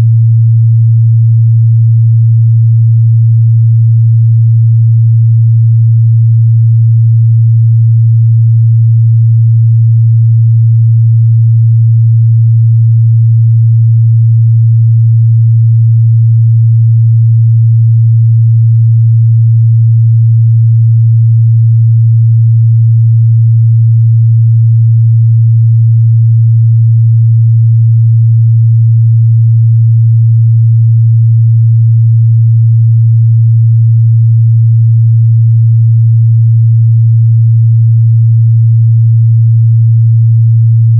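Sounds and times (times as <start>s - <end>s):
low sine-wave test tone: 0.0s - 40.9s.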